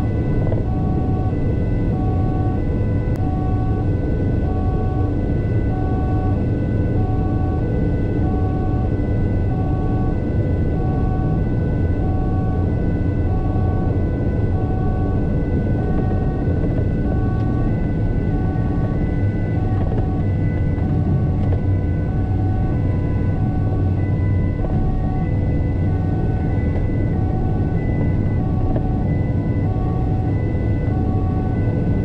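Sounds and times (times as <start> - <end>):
engine and road rumble: 0.0 - 32.0
two-tone emergency siren: 0.0 - 32.0.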